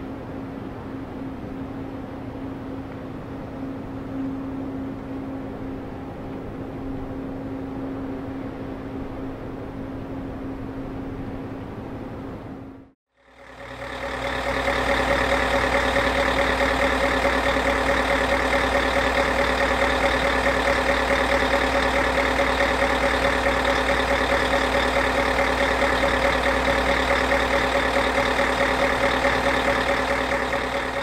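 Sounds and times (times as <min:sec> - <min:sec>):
large engine running steadily: 0:00.0 - 0:31.0.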